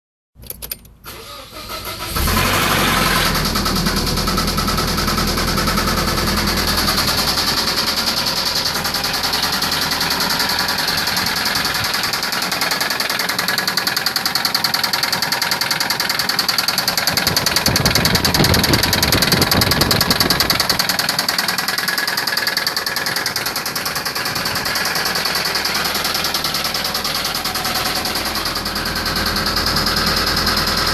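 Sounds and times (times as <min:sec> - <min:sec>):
car engine cranking and running: 0:00.4 - 0:30.9.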